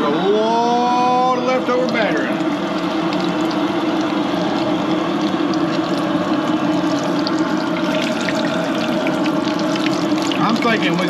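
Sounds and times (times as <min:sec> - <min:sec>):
oil bubbling and sizzling in fryer: 0:00.0 - 0:11.0
steady low hum: 0:00.0 - 0:11.0.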